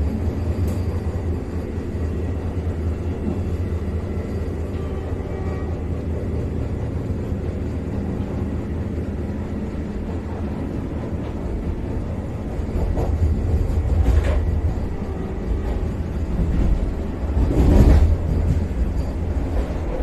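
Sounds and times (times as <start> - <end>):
train cab low rumble: 0.0 - 20.0.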